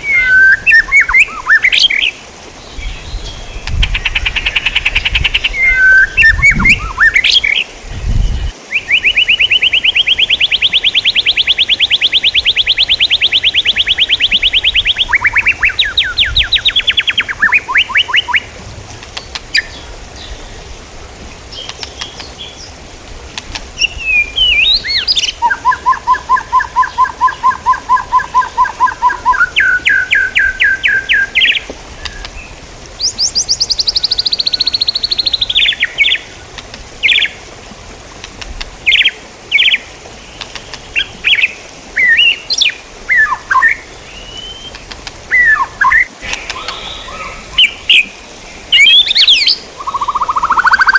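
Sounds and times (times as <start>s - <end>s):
songbird singing trills: 0.0s - 18.5s, 23.7s - 36.3s, 40.4s - 50.9s.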